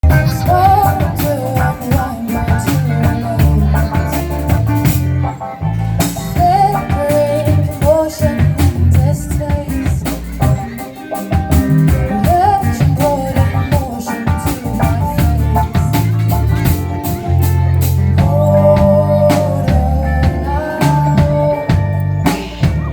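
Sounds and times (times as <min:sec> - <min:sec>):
bass: 0:00.0 - 0:22.9
drum kit steady beat: 0:00.0 - 0:22.9
guitar: 0:00.0 - 0:22.9
sliding melody line: 0:00.0 - 0:22.9.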